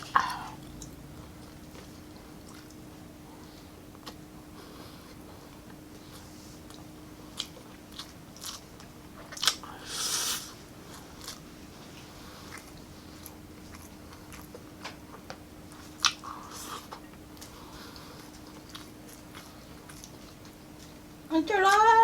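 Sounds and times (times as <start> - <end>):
person chewing food: 0.0 - 21.1.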